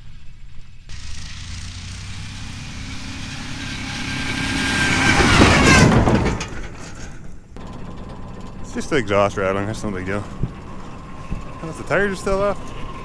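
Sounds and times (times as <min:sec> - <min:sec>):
exhaust rattle: 0:00.9 - 0:13.0
truck engine revving: 0:00.9 - 0:13.0.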